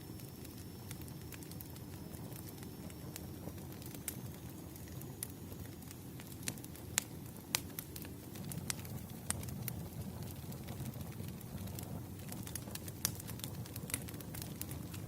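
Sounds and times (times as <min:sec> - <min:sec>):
low rumble of flames: 0:00.0 - 0:15.0
wood popping and crackling: 0:00.3 - 0:15.0.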